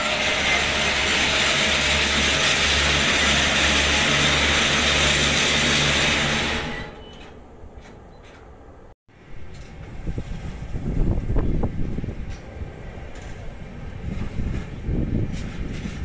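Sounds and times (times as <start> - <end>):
freight train brakes grinding: 0.0 - 8.6, 9.2 - 16.0.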